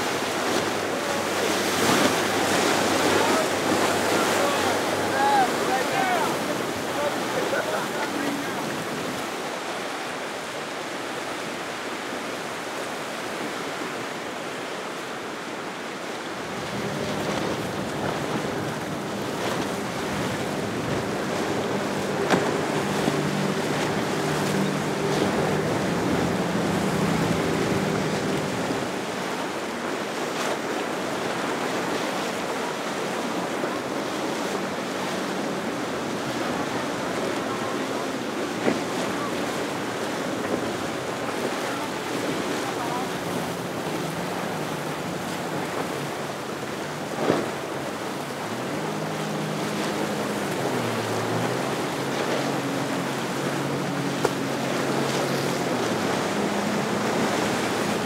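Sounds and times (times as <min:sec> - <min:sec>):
boat engine droning: 0:00.0 - 0:58.0
surf: 0:00.0 - 0:58.0.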